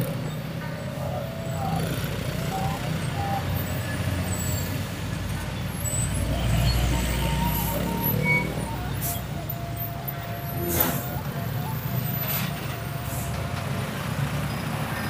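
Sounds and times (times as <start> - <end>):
road noise hiss: 0.0 - 15.0.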